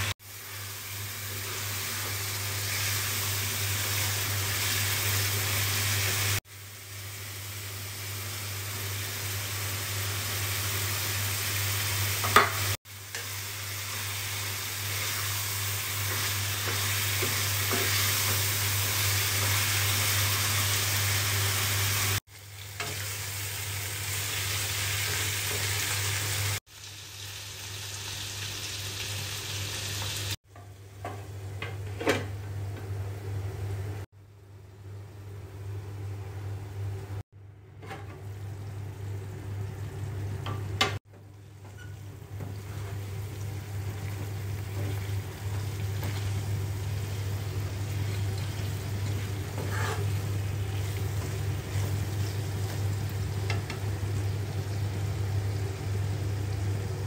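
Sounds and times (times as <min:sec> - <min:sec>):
curry sizzling in a frying pan: 0:00.0 - 0:31.3, 0:38.4 - 0:57.0.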